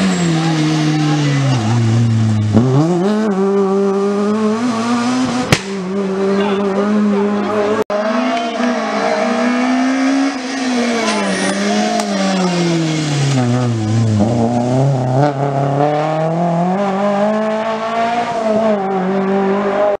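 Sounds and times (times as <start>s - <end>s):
rally car engine: 0.0s - 20.0s.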